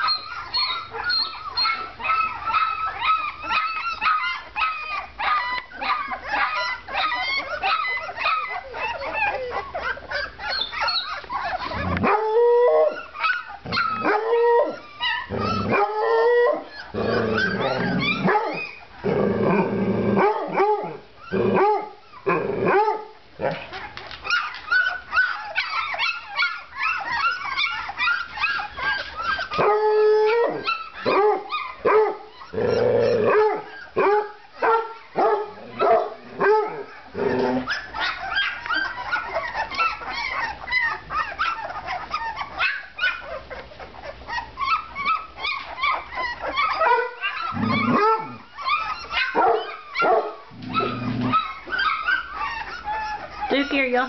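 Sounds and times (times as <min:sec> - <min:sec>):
dogs yelping and howling: 0:00.0 - 0:54.0.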